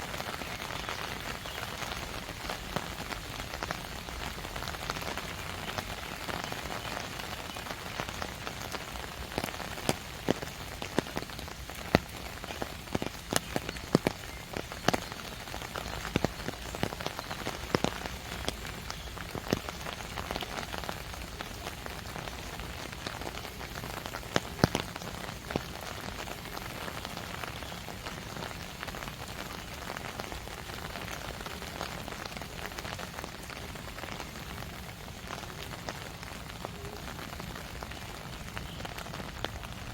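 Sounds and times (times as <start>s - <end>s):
sharp ticks of raindrops: 0.0s - 39.9s
steady rain falling: 0.0s - 39.9s.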